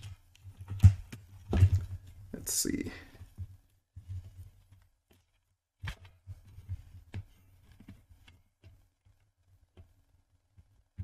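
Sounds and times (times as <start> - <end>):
plastic parts clicking and rubbing: 0.0 - 2.3, 3.2 - 11.0.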